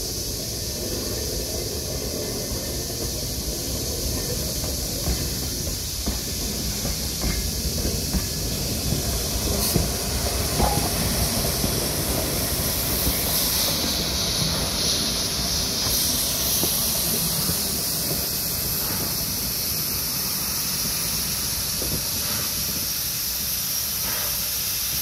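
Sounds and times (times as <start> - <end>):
loud steam hiss: 0.0 - 25.0
steam locomotive rumbling past: 0.0 - 25.0.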